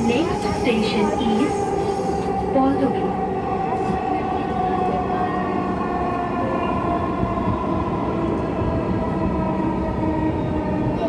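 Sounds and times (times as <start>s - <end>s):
metro train rumble: 0.0s - 11.0s
train drive whine: 0.0s - 11.0s.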